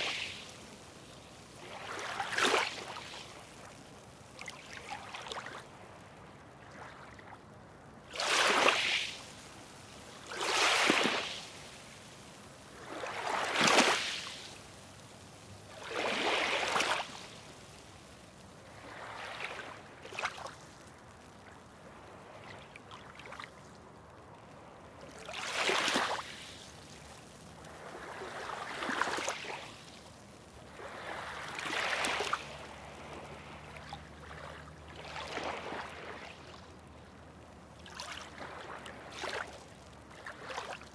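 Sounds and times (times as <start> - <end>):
low steady water hiss: 0.0 - 40.9
small waves splashing: 0.0 - 40.9.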